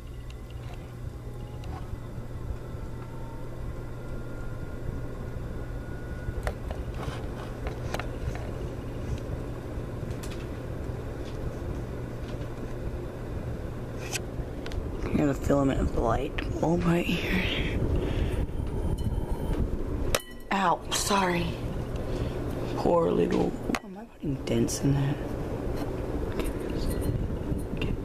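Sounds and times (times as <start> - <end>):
ceiling fan motor hum: 0.0 - 28.0
faint rising whine: 0.0 - 28.0.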